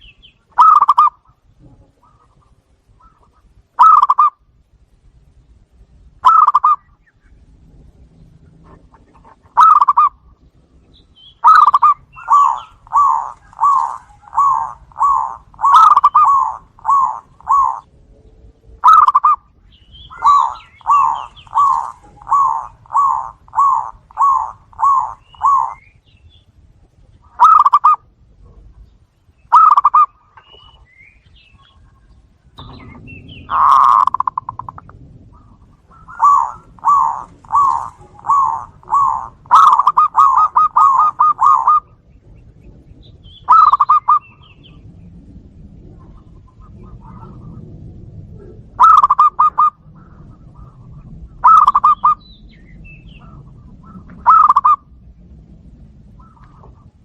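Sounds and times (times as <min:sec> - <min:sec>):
doves cooing: 0:00.0 - 0:04.6, 0:06.2 - 0:26.1, 0:26.9 - 0:28.8, 0:29.5 - 0:57.0
low rumble: 0:00.0 - 0:57.0.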